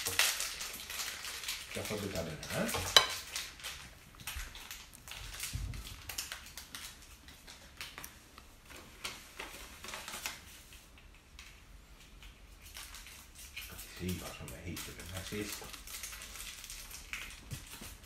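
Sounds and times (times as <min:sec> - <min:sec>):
packaging crinkling: 0:00.0 - 0:18.0.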